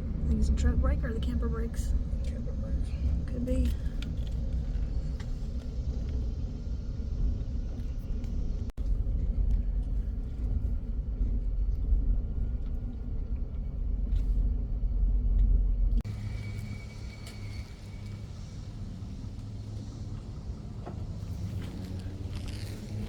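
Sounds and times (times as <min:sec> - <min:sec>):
truck engine rumble: 0:00.0 - 0:23.0.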